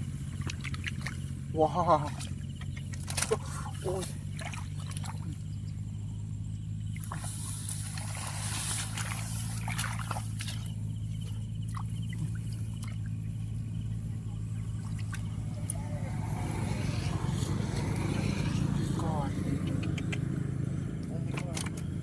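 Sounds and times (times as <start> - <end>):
low engine hum: 0.0 - 22.0
muddy water splashing: 0.0 - 22.0.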